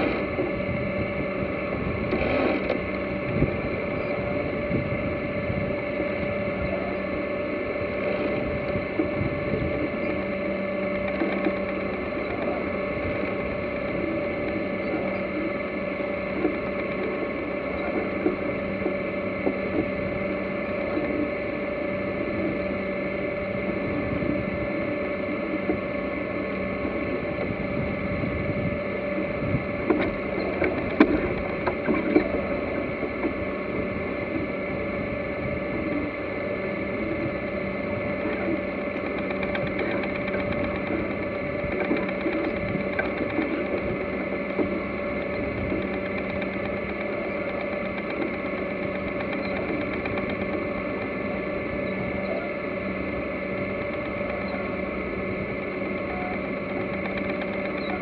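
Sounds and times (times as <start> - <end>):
steady droning hum: 0.0 - 58.0
water splashing along hull: 0.0 - 58.0.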